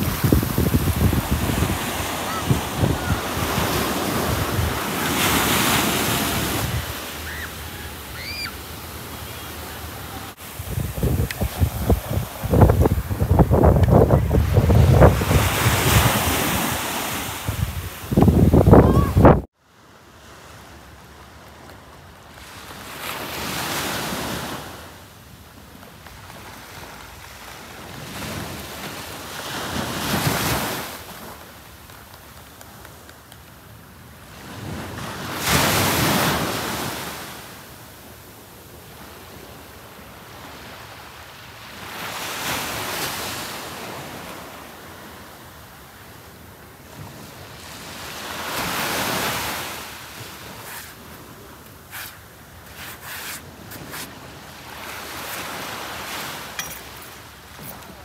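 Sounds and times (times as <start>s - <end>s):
ocean waves breaking on sand: 0.0s - 58.0s
steady surf hiss: 0.0s - 58.0s.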